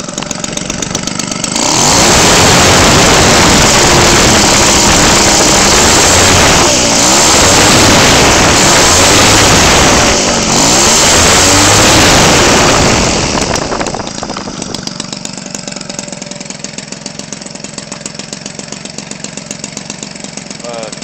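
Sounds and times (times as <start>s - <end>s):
two-stroke engine with propeller: 0.0s - 21.0s.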